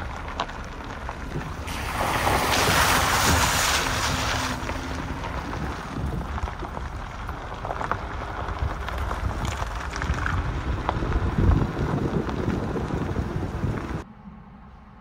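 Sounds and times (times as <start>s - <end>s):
tyres crunching on gravel: 0.0s - 14.0s
wind buffeting microphone: 1.0s - 14.0s.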